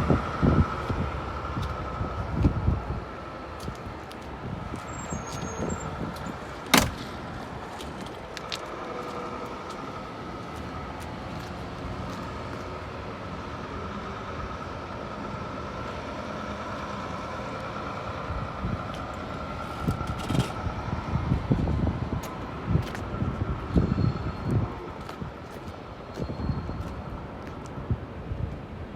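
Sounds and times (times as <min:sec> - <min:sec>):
vehicle running: 0:00.0 - 0:28.2.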